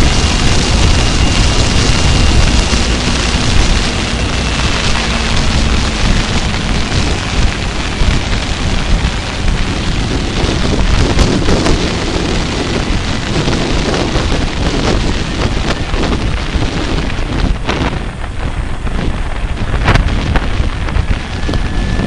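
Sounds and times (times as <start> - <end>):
faint motorcycle engine hum: 0.0 - 22.0
wind buffeting microphone: 0.0 - 22.0.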